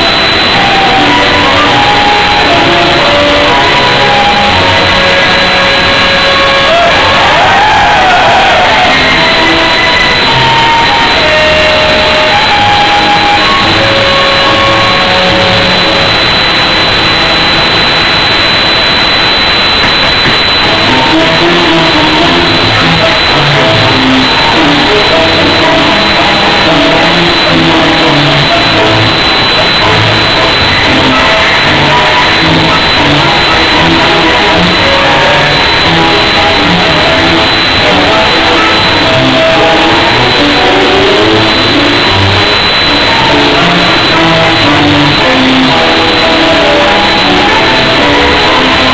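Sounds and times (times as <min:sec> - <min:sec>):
distorted tango music: 0:00.0 - 0:48.9
recording hiss: 0:00.0 - 0:48.9
steady high whine: 0:00.0 - 0:48.9.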